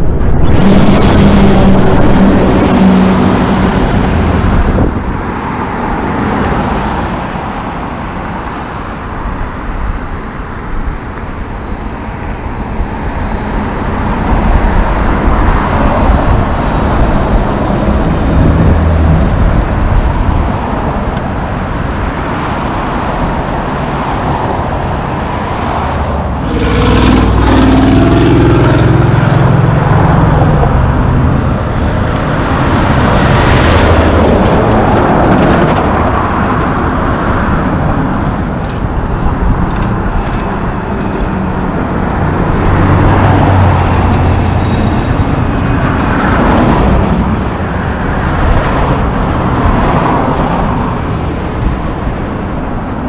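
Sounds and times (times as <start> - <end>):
heavy truck engine passing: 0.0 - 10.0, 11.0 - 53.0
highway traffic rumble: 0.0 - 53.0.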